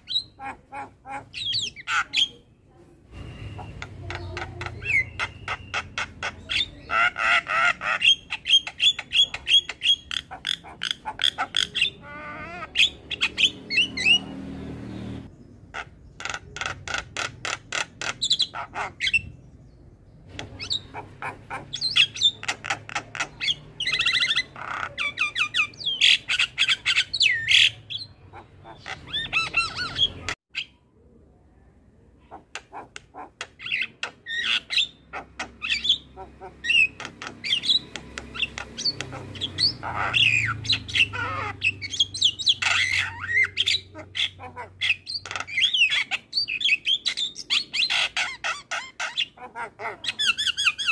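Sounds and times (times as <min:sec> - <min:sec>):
myna bird singing: 0:00.0 - 0:50.9.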